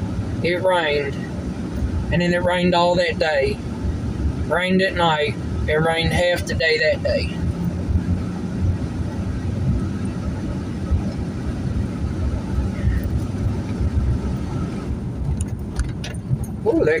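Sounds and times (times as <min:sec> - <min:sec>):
road and engine rumble in truck cab: 0:00.0 - 0:17.0.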